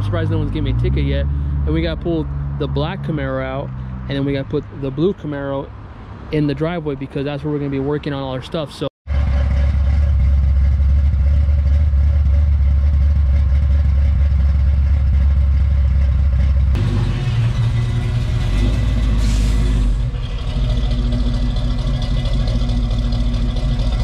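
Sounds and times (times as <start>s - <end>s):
car exhaust deep drone: 0.0s - 5.1s, 9.1s - 24.0s
choppy engine exhaust: 0.0s - 5.5s, 9.1s - 24.0s.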